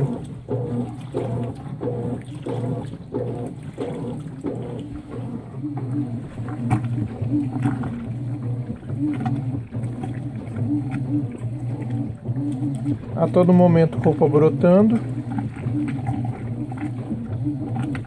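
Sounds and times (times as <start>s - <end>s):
rhythmic water sloshing: 0.0s - 18.0s
washing machine motor hum: 0.0s - 18.0s.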